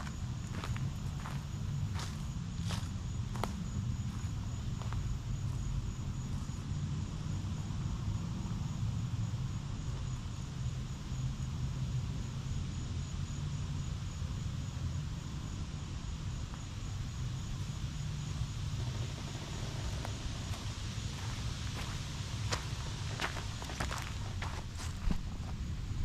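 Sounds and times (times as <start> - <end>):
high-pitched insect trill: 0.0 - 25.1
steady low rumble: 0.0 - 26.0.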